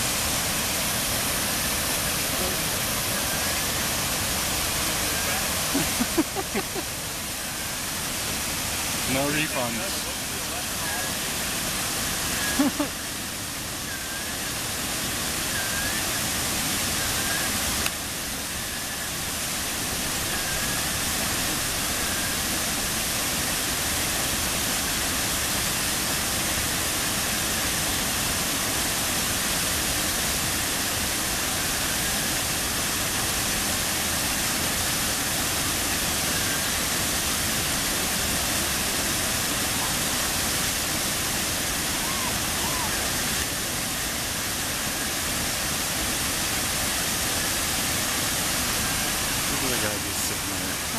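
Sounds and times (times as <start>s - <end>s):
water rushing over rocks: 0.0s - 50.9s.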